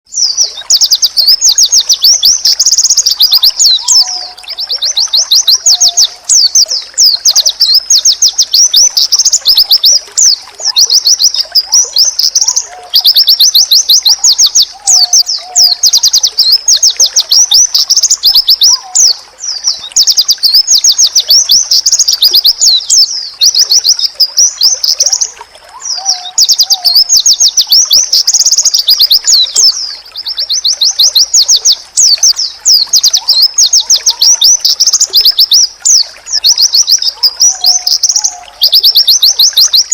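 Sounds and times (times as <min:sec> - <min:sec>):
bird twittering song: 0:00.1 - 0:39.9.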